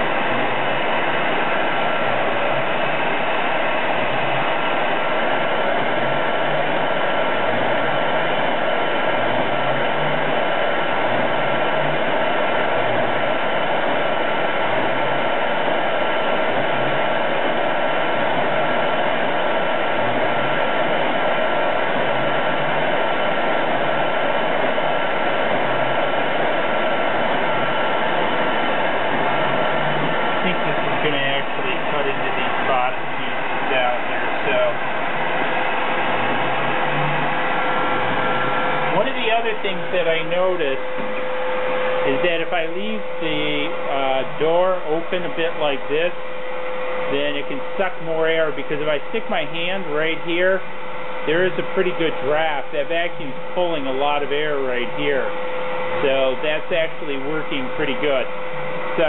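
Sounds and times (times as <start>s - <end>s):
faint whine: 0.0s - 59.0s
shop vacuum running: 0.0s - 59.0s.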